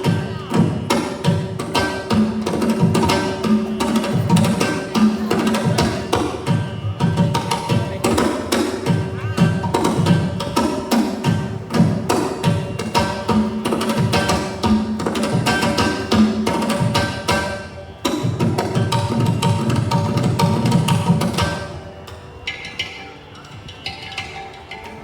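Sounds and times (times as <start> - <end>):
rapid drum and wood-block strikes: 0.0 - 25.0
sustained instrumental tones: 0.0 - 25.0.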